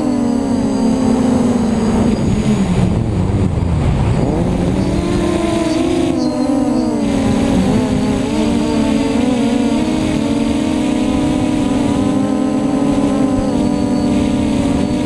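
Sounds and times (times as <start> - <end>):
quadcopter motors buzzing whine: 0.0 - 15.0.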